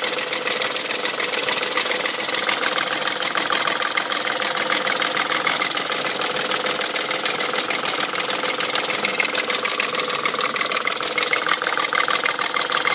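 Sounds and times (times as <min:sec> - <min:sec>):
engine idling with ticking clatter: 0:00.0 - 0:12.9.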